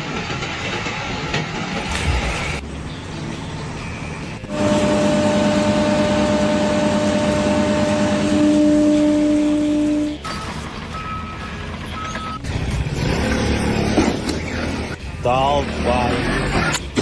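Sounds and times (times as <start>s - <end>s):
heavy machine humming: 0.0s - 17.0s.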